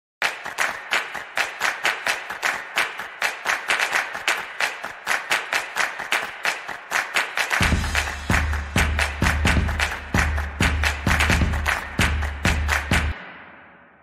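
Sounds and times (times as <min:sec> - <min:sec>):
rapid hand claps: 0:00.2 - 0:13.3.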